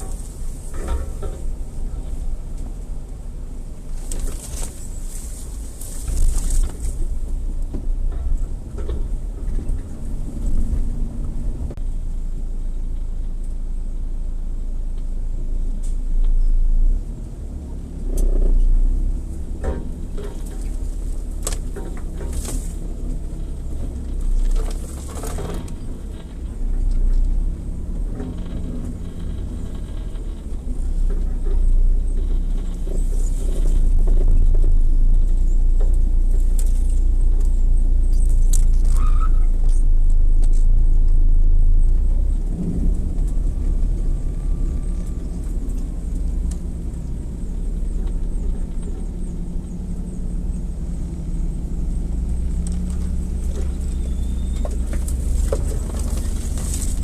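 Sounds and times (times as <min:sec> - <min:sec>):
rattles and knocks: 0:00.0 - 0:11.8, 0:18.2 - 0:57.0
off-road vehicle engine rumble: 0:00.0 - 0:57.0.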